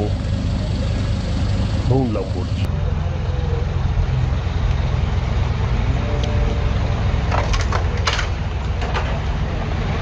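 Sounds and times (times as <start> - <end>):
vehicle and road rumble: 0.0 - 10.0.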